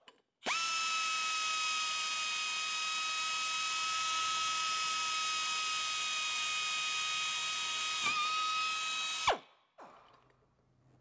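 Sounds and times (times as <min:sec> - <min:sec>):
pneumatic drill whining: 0:00.4 - 0:09.4.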